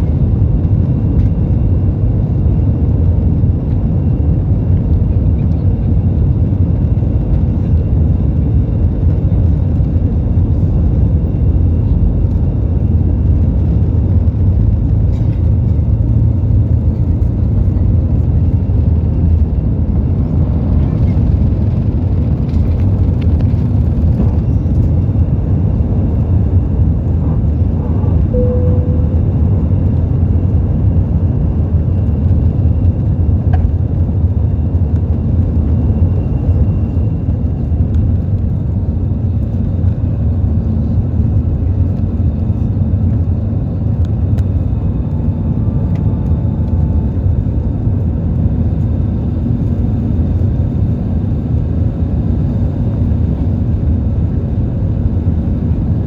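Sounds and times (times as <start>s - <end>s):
airliner engine low rumble: 0.0s - 56.0s.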